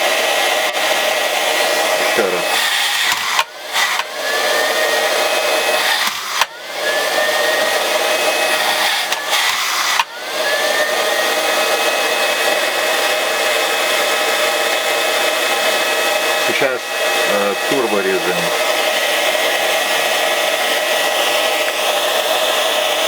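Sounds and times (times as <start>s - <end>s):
robot vacuum fan whine: 0.0s - 23.0s.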